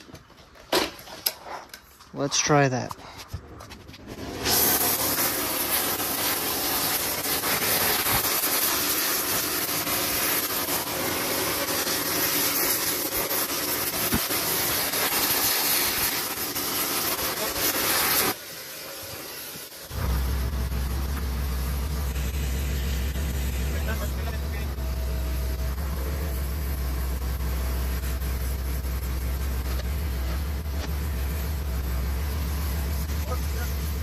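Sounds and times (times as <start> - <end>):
gas torch flame hissing: 4.0 - 34.0.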